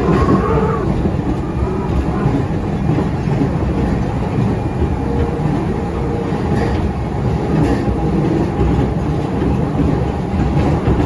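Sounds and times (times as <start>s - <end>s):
train wheels on rail: 0.0s - 11.0s.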